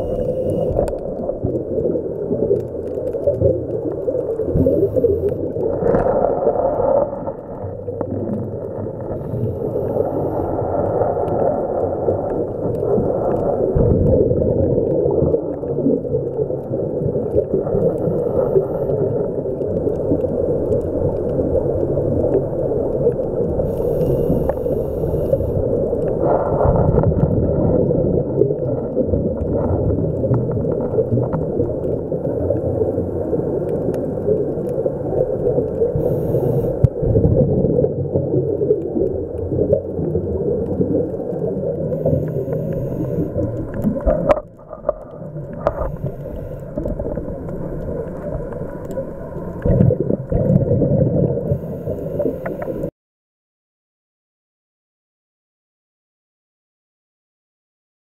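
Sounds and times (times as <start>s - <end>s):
underwater breathing bubbles: 0.0s - 52.9s.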